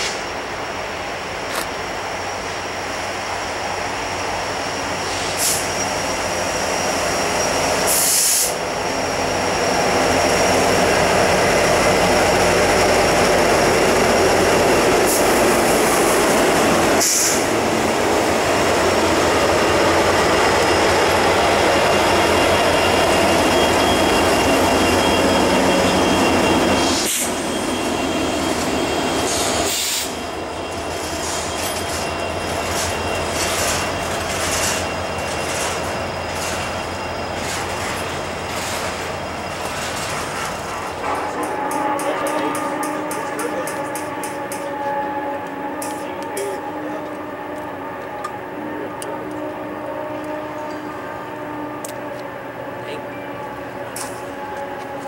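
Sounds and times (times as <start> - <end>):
diesel freight train passing: 0.0 - 55.0
train wheel noise: 0.0 - 55.0
faint high wheel squeal: 4.1 - 15.0, 18.4 - 55.0.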